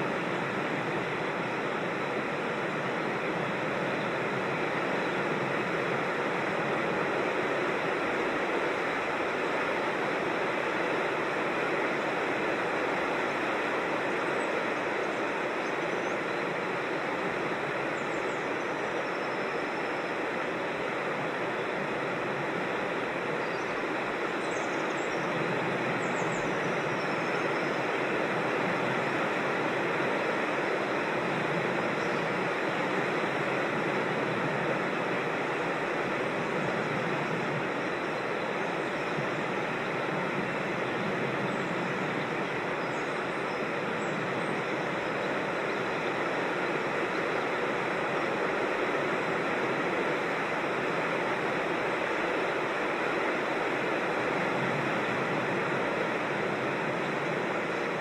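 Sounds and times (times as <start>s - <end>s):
creek rushing over rocks: 0.0s - 58.0s.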